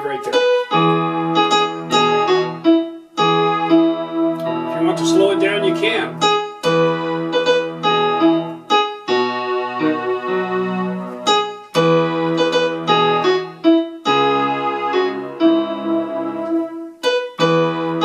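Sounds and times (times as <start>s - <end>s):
keyboard playing hymn melody: 0.0s - 18.0s.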